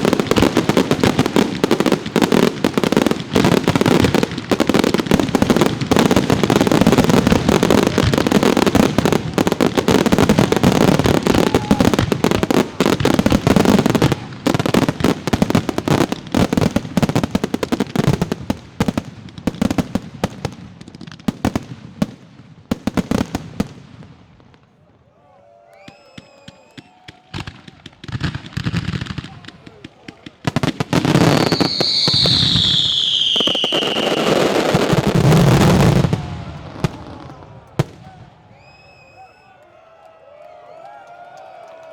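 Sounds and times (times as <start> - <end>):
fireworks bangs and crackling: 0.0 - 25.1, 25.8 - 39.4.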